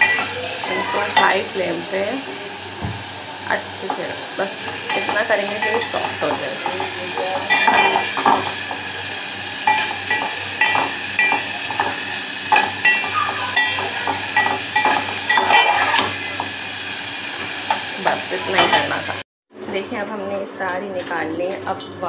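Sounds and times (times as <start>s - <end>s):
vegetables sizzling in hot oil: 0.0s - 19.2s.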